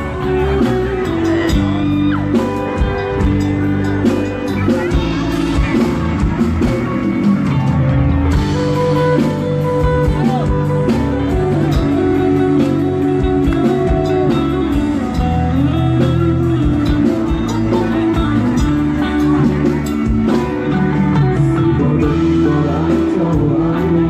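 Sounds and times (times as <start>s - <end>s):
bass guitar: 0.0s - 24.0s
lead electric guitar with bent notes: 0.0s - 24.0s
steady drum beat: 0.0s - 24.0s.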